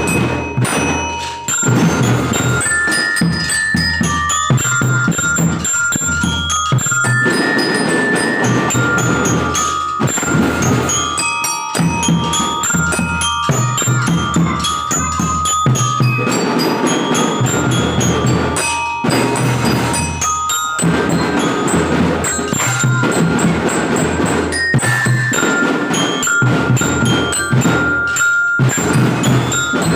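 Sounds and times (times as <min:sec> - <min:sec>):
bass and snare drums: 0:00.0 - 0:29.9
glockenspiel melody: 0:00.0 - 0:29.9.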